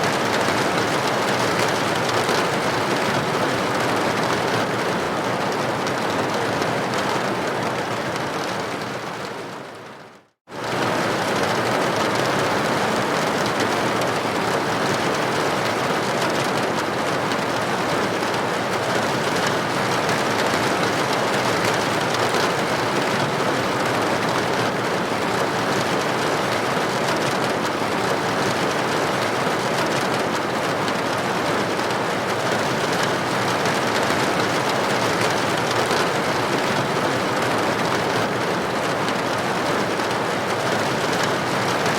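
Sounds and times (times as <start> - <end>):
rain hissing on window: 0.0 - 41.9.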